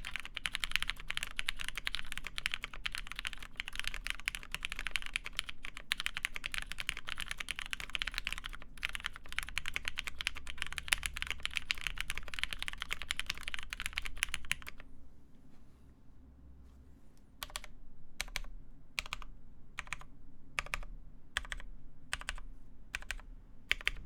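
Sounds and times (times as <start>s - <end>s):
mechanical keyboard typing: 0.0s - 14.8s, 17.4s - 24.0s.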